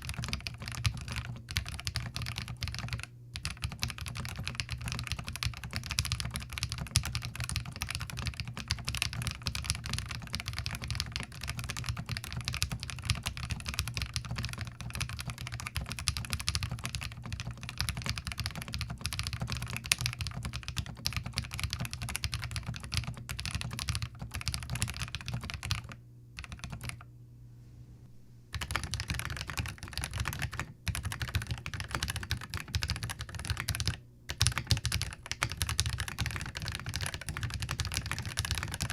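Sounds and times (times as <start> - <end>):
typing on mechanical keyboard: 0.0 - 27.0, 28.5 - 38.9.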